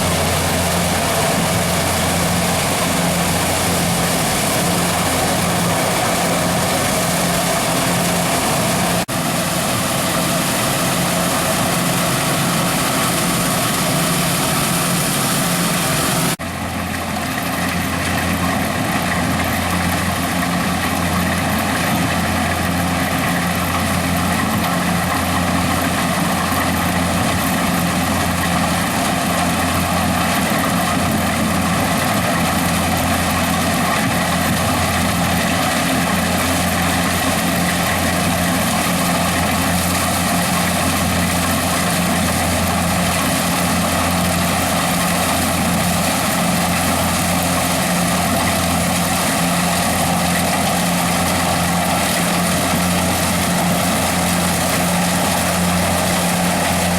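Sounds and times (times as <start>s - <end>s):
harvester engine and machinery: 0.0s - 56.9s.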